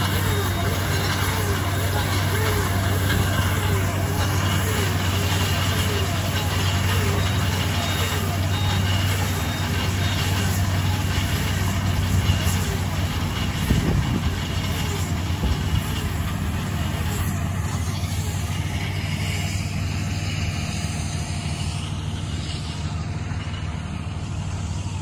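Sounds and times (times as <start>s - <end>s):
tractor engines droning: 0.0s - 25.0s.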